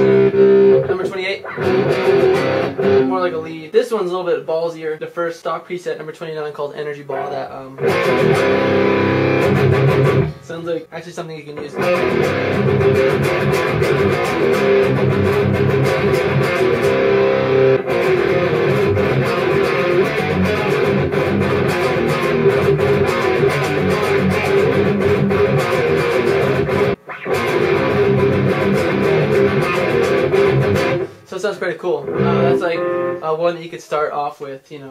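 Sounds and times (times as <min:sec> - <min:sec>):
distorted electric guitar riffing: 0:00.0 - 0:03.4, 0:07.1 - 0:10.5, 0:11.6 - 0:33.4.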